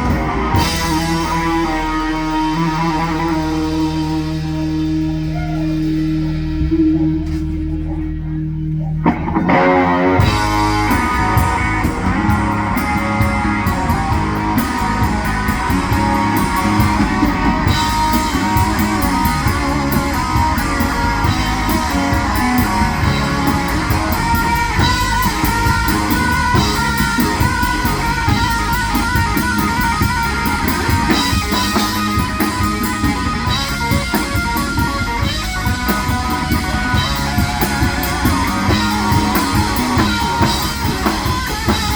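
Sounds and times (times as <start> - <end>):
guitar rising slide: 0.0 - 41.9
rock band playing: 0.0 - 41.9.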